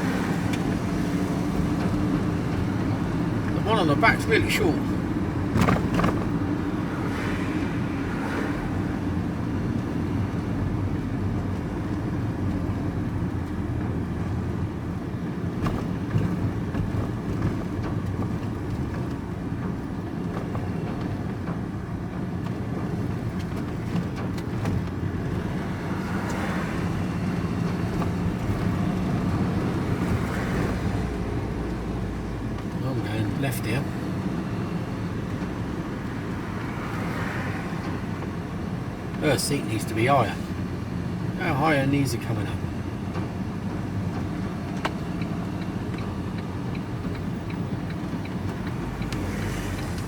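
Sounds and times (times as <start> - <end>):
vehicle engine and road noise: 0.0 - 50.0.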